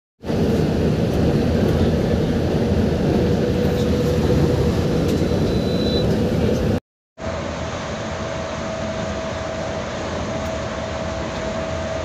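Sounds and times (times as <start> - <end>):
bus engine and road rumble: 0.2 - 12.0.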